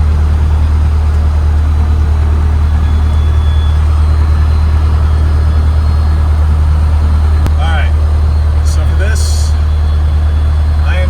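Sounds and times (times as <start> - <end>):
small plane engine droning: 0.0 - 11.0.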